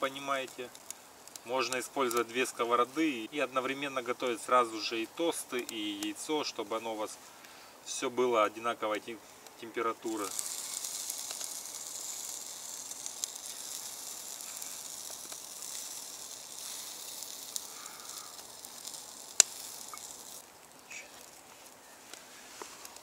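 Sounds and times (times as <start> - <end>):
food sizzling in a frying pan: 0.0 - 7.0, 9.2 - 22.0.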